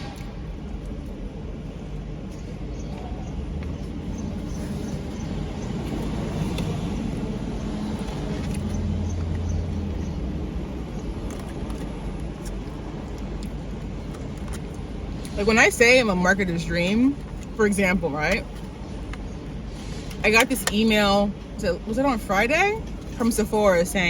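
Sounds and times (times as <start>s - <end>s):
motor vehicle low rumble: 0.0s - 24.0s.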